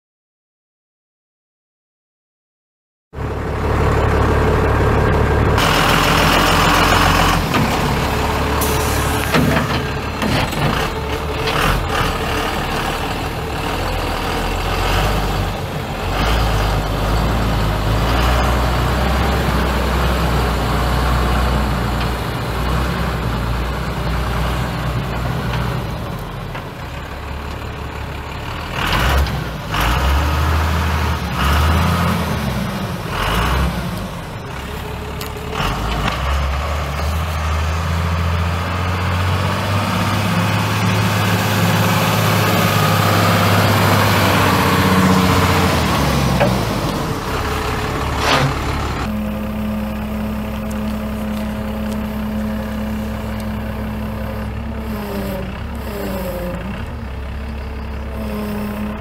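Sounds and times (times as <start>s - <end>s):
diesel truck engine running: 3.2s - 59.0s.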